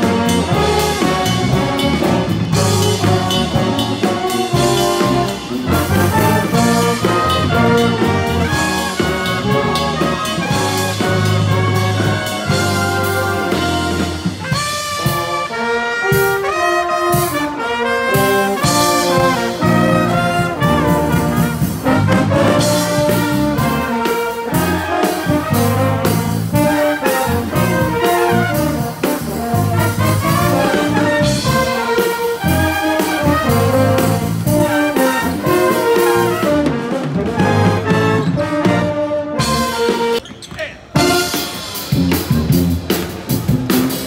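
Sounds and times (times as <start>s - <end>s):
drum beat: 0.0s - 16.5s, 17.1s - 38.8s, 41.0s - 44.0s
brass horns playing melody: 0.0s - 40.2s, 41.0s - 44.0s.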